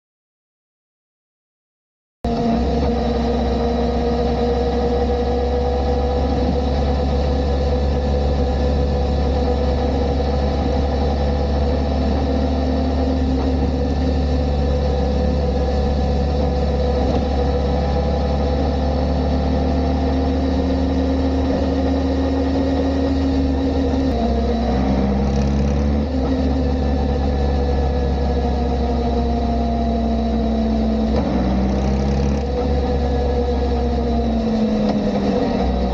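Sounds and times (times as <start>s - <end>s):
motorcycle engine running: 2.3s - 35.9s.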